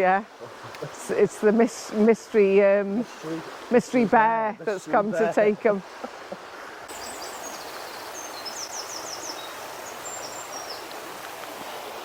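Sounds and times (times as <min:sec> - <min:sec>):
songbird chirping: 0:00.0 - 0:11.6
river rushing: 0:00.0 - 0:12.0.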